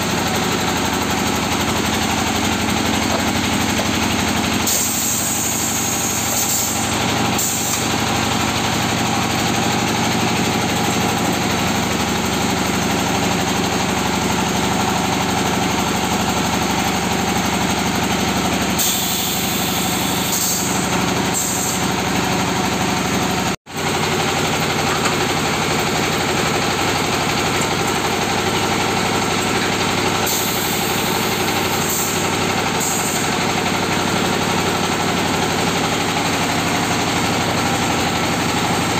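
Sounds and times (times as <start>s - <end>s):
brick making machine running: 0.0s - 38.9s.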